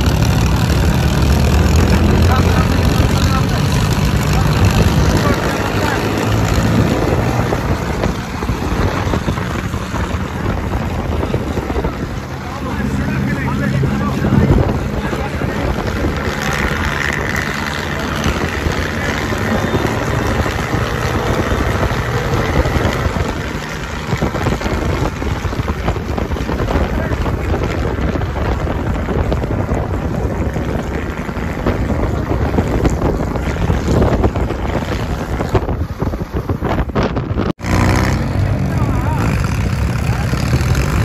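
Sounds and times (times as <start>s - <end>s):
engine drone: 0.0s - 41.0s
wind buffeting microphone: 0.0s - 41.0s.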